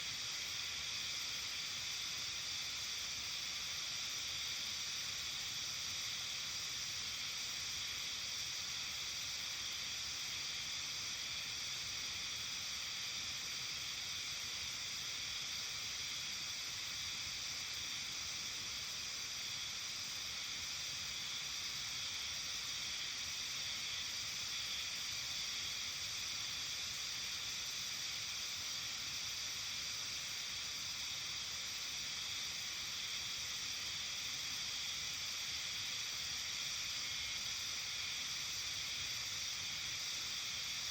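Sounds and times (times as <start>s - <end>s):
steady high-pitched hiss: 0.0s - 40.9s.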